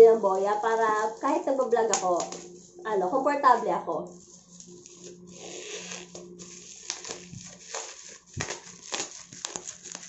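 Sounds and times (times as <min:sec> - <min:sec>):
bubble wrap crinkling and crackling: 0:00.0 - 0:10.0.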